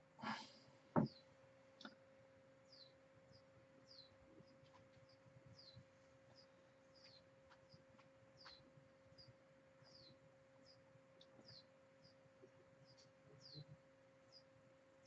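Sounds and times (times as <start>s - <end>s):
electrical hum: 0.0s - 15.0s
small bird chirping: 1.0s - 2.0s, 2.6s - 15.0s.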